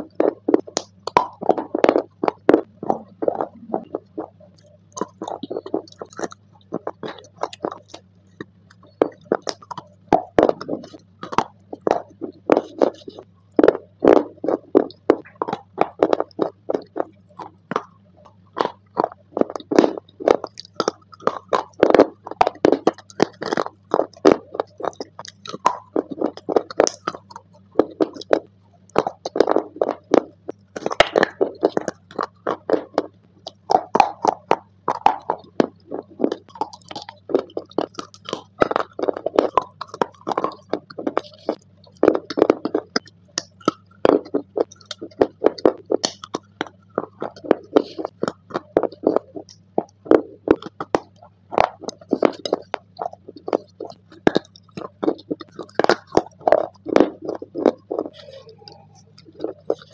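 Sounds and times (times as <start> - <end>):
steady low hum: 0.0 - 59.9
wet crunchy chewing: 0.0 - 59.9.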